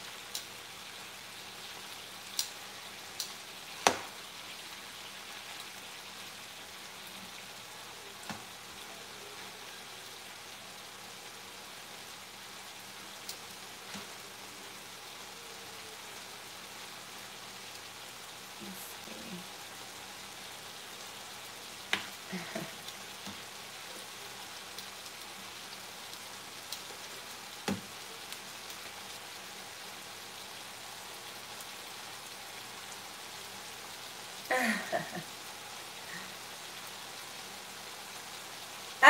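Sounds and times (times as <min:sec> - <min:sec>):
beef sizzling in frying pan: 0:00.0 - 0:39.0.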